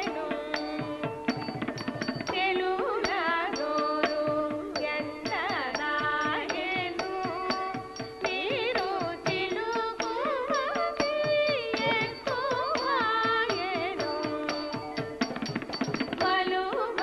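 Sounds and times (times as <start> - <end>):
drum strokes: 0.0 - 17.0
person singing ornamented notes: 0.0 - 17.0.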